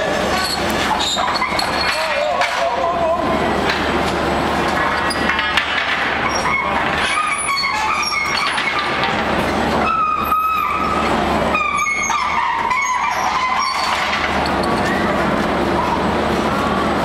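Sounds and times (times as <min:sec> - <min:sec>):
furnace roar: 0:00.0 - 0:17.0
metal-on-metal squeals: 0:00.1 - 0:02.7, 0:04.9 - 0:16.1.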